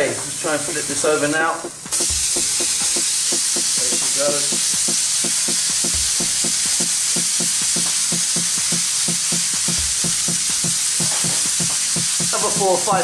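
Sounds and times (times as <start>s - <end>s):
fish sizzling on griddle: 0.0s - 13.0s
quick even beat: 0.0s - 13.0s.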